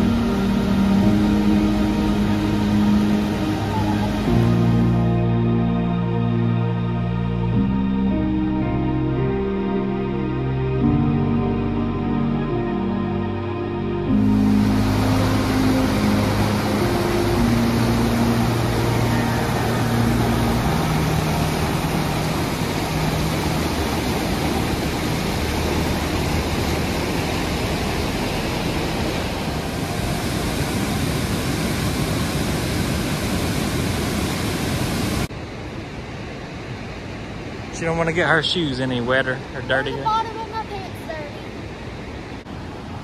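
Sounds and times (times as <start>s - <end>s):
waterfall rushing: 0.0s - 7.5s, 12.1s - 43.0s.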